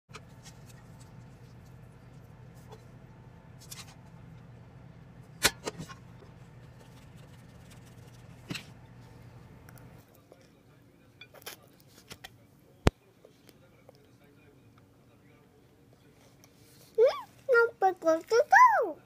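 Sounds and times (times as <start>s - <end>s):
steady low hum: 0.1s - 17.5s.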